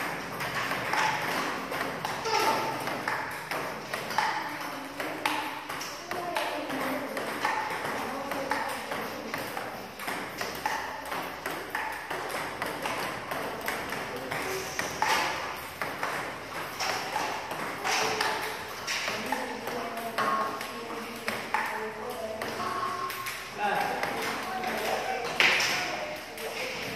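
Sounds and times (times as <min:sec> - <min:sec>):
ping pong balls bouncing on table: 0:00.0 - 0:26.9
ping pong balls hitting paddles: 0:00.0 - 0:26.9.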